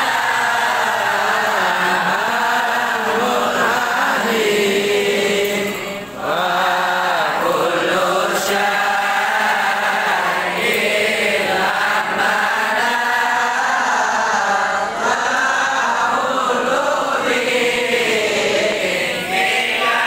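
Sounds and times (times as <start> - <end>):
men and boys chanting: 0.0 - 20.0.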